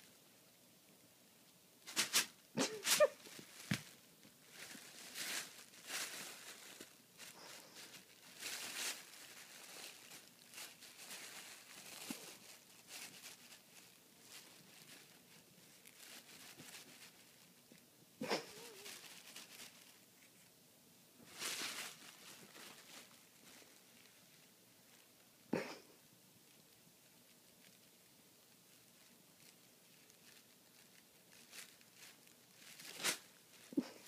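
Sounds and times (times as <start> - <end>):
plastic bag crinkling: 1.8 - 20.5, 21.2 - 25.2, 26.5 - 34.0.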